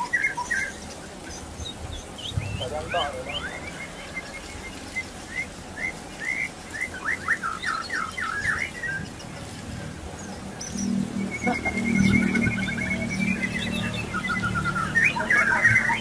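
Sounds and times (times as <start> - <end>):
bird singing chirps and whistles: 0.0 - 9.4, 10.2 - 16.0.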